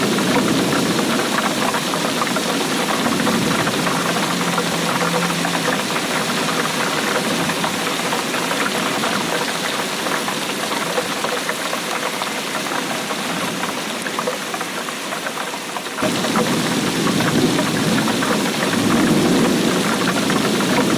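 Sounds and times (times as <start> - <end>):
steady rainfall: 0.0 - 20.9.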